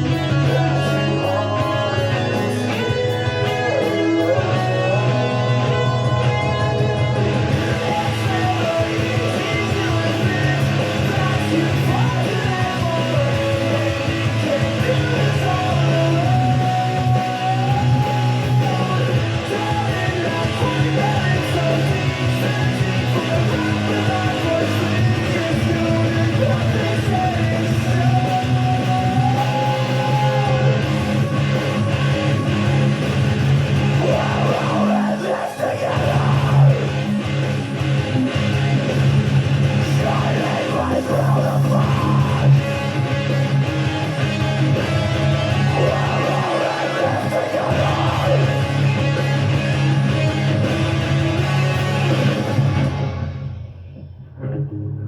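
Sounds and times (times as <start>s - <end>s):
metalcore guitar cover: 0.0s - 55.0s.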